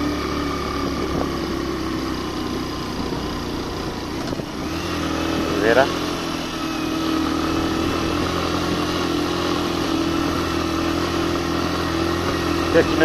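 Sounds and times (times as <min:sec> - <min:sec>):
motorcycle engine pulling uphill: 0:00.0 - 0:13.0.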